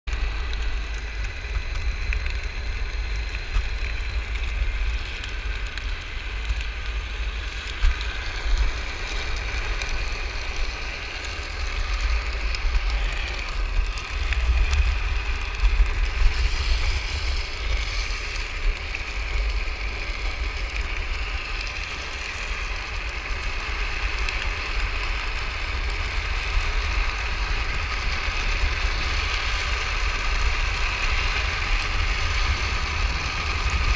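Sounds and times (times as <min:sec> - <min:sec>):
electric hub motor whine: 0:00.1 - 0:33.9
wheels rolling on asphalt: 0:00.1 - 0:33.9
wind buffeting microphone: 0:00.1 - 0:33.9.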